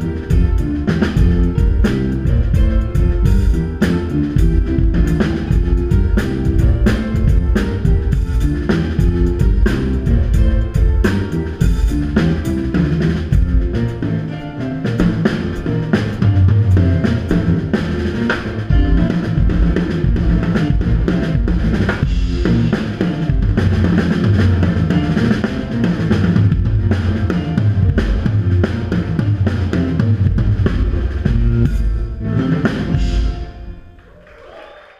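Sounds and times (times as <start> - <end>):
instrumental band music: 0.0 - 34.6.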